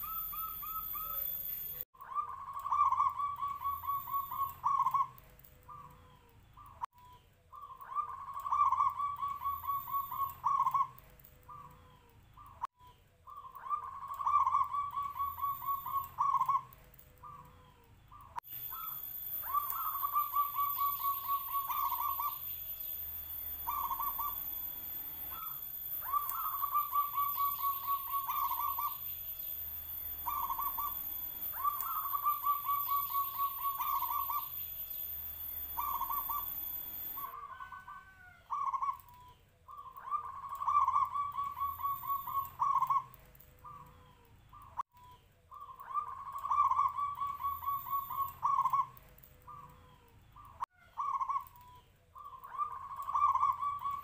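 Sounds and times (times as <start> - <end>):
dove cooing: 0.0 - 6.0, 7.5 - 11.8, 13.3 - 17.6, 18.2 - 22.5, 23.6 - 24.5, 25.3 - 29.1, 30.2 - 34.6, 35.7 - 44.0, 45.5 - 49.8, 50.4 - 54.0
steady high background hiss: 0.0 - 54.0.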